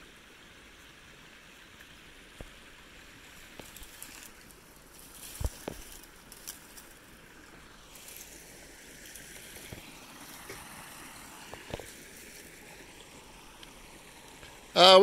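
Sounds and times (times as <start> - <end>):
flowing stream hiss: 0.0 - 15.0.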